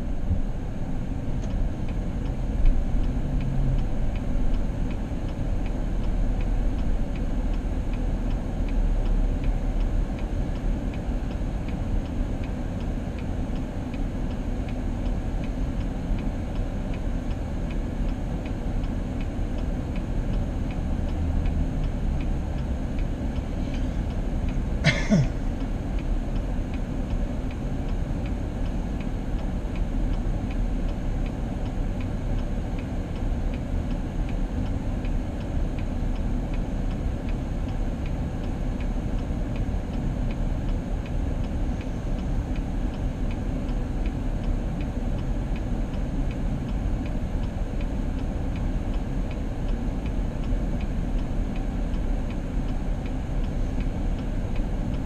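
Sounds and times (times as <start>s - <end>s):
car road noise: 0.0s - 55.0s.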